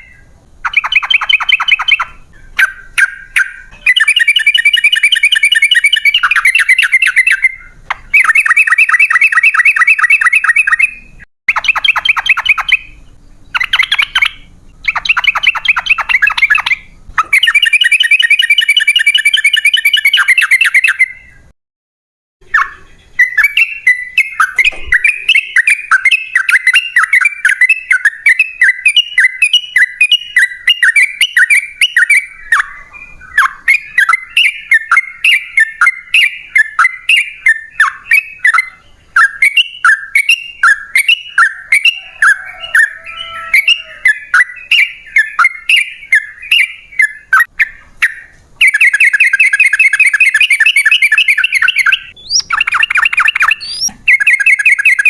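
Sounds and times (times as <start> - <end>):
bird chirping song: 0.0 - 21.6, 22.4 - 55.0.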